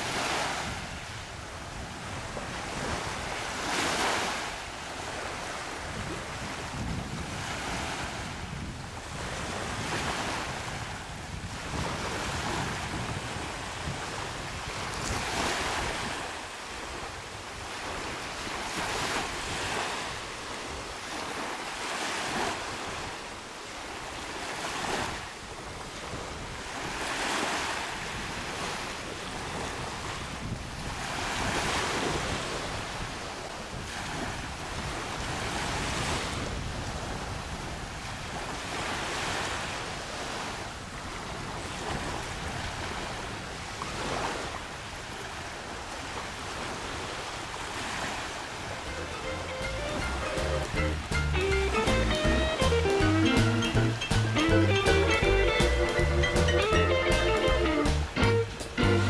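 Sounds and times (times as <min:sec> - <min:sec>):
wind rumbling on microphone: 0:00.0 - 0:51.2
small waves washing on sand: 0:00.0 - 0:52.0.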